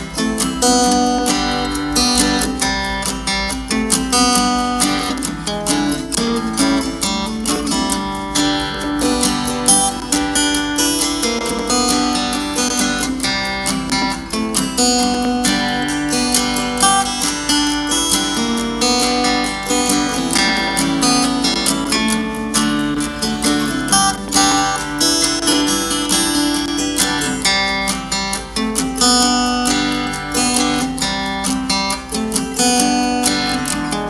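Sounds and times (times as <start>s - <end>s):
strummed acoustic guitar music: 0.0s - 34.0s.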